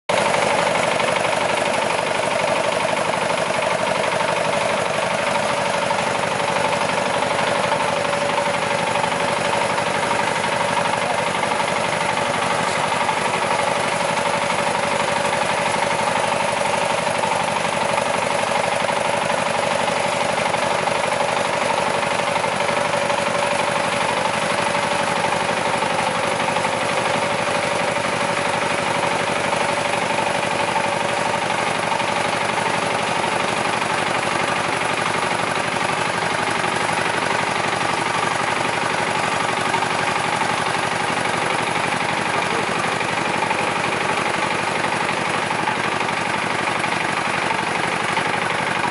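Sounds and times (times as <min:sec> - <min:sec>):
tractor engine running: 0:00.0 - 0:48.9
sprayer fan blowing: 0:00.1 - 0:48.9.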